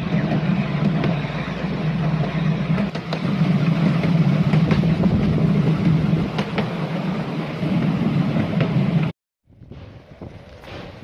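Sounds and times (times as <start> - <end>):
miniature train engine drone: 0.0 - 11.0
wheels clicking over rail joints: 0.0 - 11.0.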